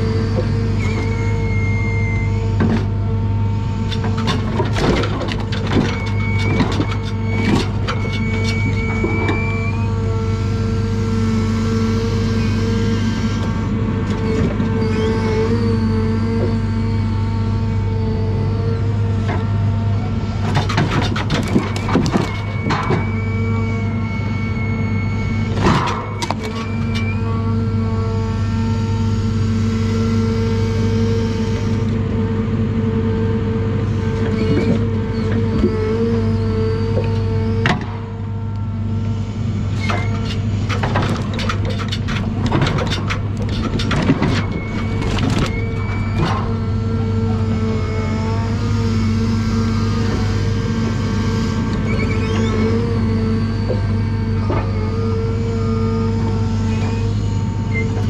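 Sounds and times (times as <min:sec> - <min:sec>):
diesel engine droning: 0:00.0 - 0:58.0
hydraulic whine: 0:00.0 - 0:58.0.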